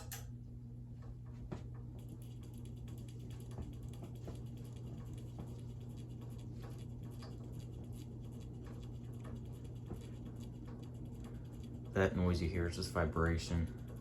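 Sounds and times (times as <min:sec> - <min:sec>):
ceiling fan motor hum: 0:00.0 - 0:14.0.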